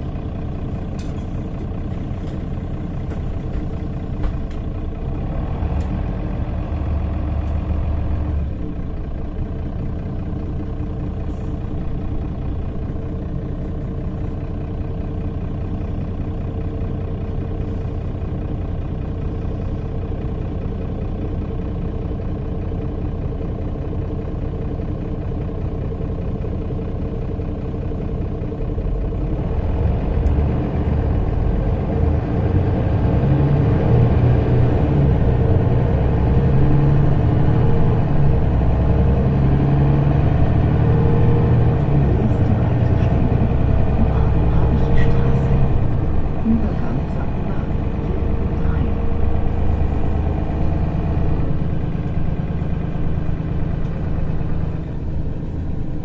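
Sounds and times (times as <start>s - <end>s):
bus engine idling and accelerating: 0.0s - 56.0s.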